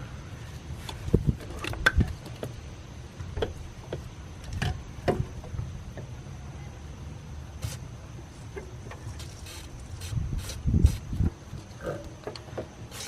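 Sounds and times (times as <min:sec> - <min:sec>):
steady low rumble: 0:00.0 - 0:12.8.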